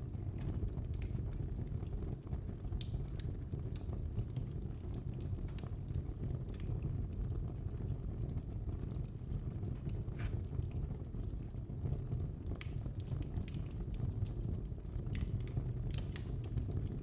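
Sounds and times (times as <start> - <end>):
fire crackling and popping: 0.0 - 17.0
flames rushing: 0.0 - 17.0.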